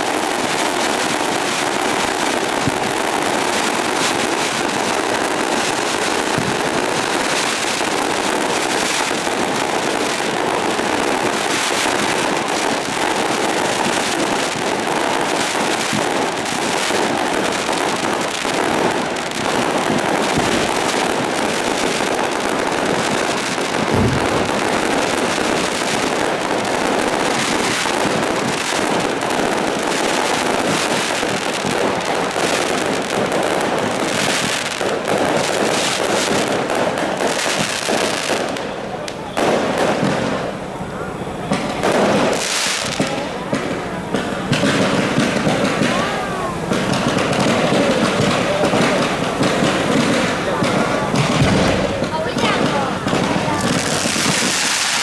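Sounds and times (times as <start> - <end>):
deep firecracker bangs: 0.0 - 55.0
firecrackers crackling: 0.0 - 55.0.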